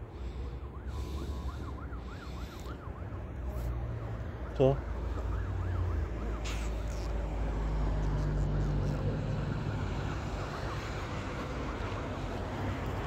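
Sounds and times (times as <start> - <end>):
distant siren yelping: 0.0 - 13.0.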